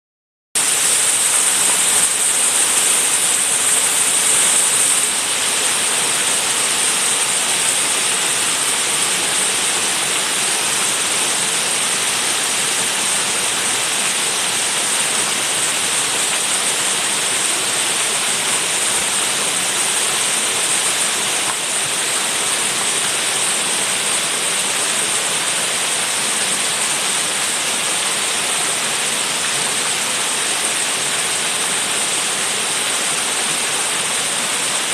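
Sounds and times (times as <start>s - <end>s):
waterfall rushing and splashing: 0.6s - 34.9s.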